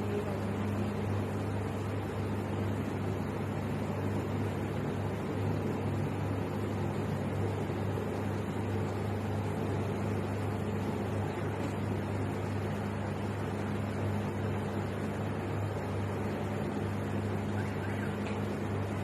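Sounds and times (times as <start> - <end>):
machine humming and hissing: 0.0 - 19.0.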